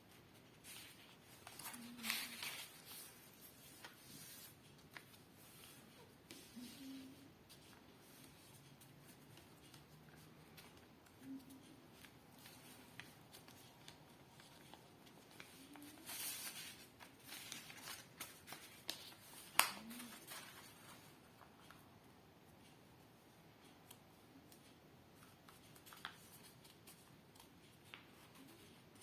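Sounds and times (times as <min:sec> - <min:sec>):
paper rustling and crinkling: 0:00.1 - 0:21.8, 0:24.5 - 0:29.0.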